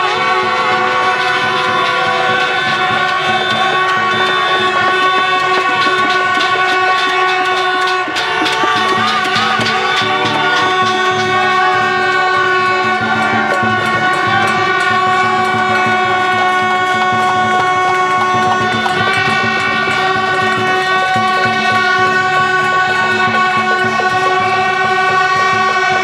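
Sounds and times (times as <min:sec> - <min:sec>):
many horns blaring: 0:00.0 - 0:26.0.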